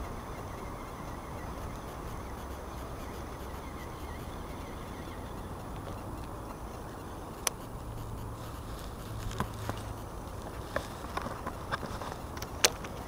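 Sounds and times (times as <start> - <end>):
low outdoor background noise: 0.0 - 13.0.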